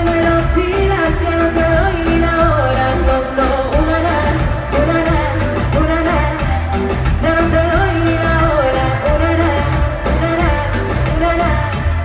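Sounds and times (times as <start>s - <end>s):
pop backing track with heavy bass: 0.0s - 12.0s
woman singing: 0.0s - 12.0s.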